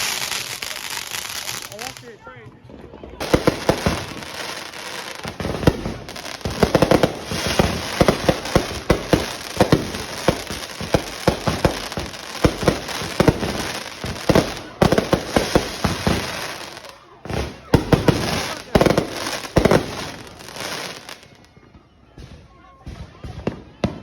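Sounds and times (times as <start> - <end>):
fireworks banging and crackling: 0.0 - 24.0.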